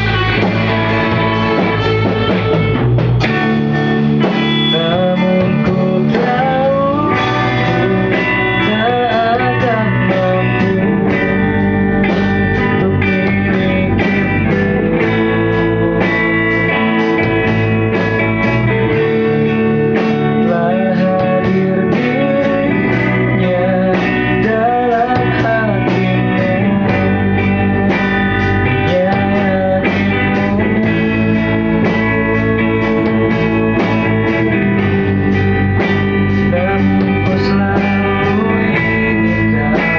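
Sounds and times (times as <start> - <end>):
band playing: 0.0 - 39.9
guitars: 0.0 - 39.9
steady drum beat: 0.0 - 39.9.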